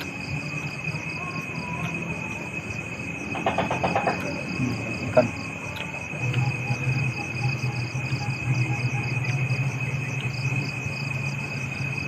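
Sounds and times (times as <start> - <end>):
crickets chirping: 0.0 - 12.0
high-pitched insect drone: 0.0 - 12.0
low steady hum: 0.0 - 12.0.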